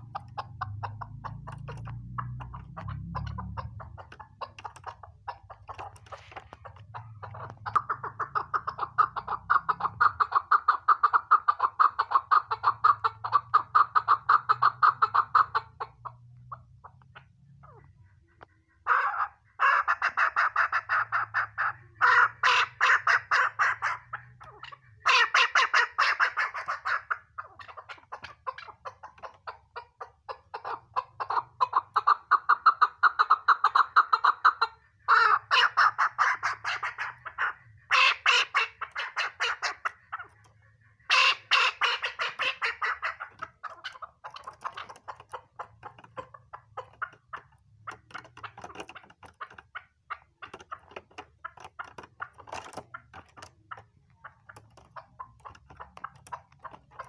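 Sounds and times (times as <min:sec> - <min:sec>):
partridge clucking calls: 0:00.0 - 0:57.0.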